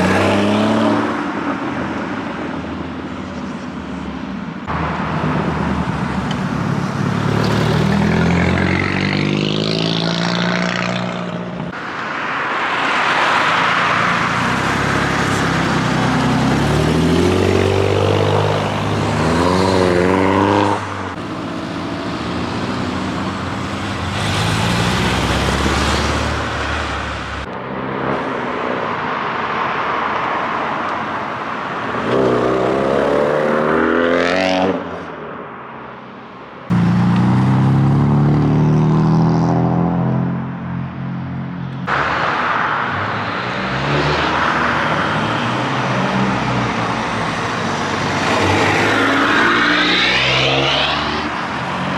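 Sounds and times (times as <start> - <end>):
car engines accelerating past: 4.7 - 35.0, 36.7 - 51.9.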